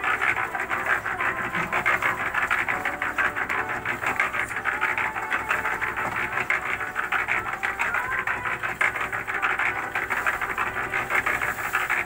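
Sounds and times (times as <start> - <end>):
concrete mixer rattling: 0.0 - 12.0.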